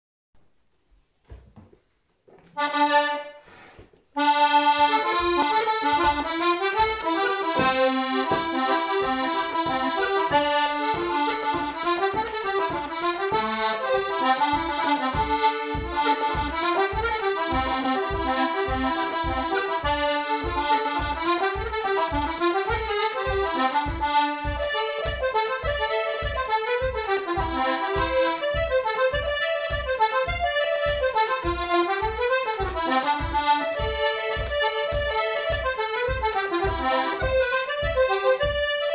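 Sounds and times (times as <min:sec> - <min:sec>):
button accordion playing fast reel: 0:02.6 - 0:38.9.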